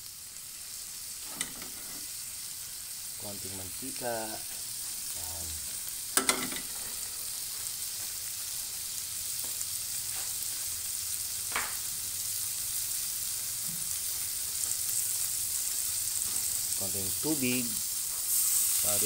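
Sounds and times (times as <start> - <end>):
shrimp sizzling in oil: 0.0 - 19.0.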